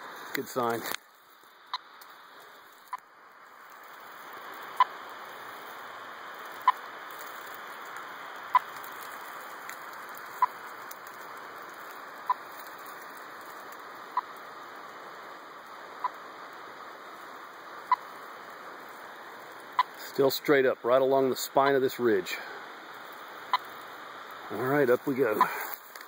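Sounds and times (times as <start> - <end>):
static hiss: 0.0 - 26.0.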